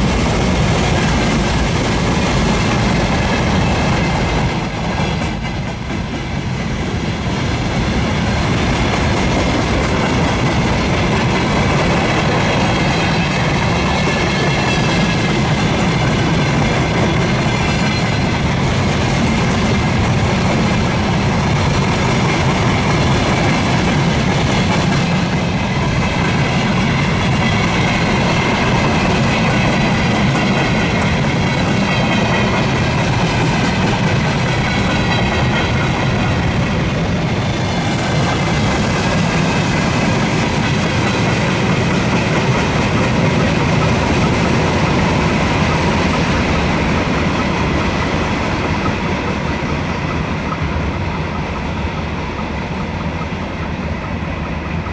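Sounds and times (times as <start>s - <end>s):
freight train wagons rolling past: 0.0s - 54.9s.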